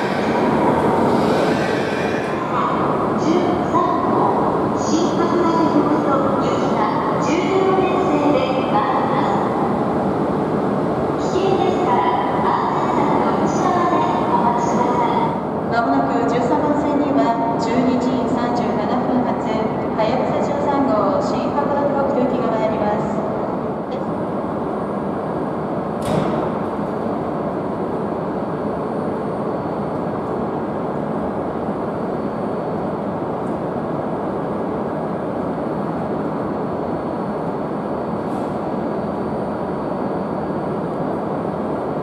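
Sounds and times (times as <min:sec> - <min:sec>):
trains rushing at platform: 0:00.0 - 0:42.0.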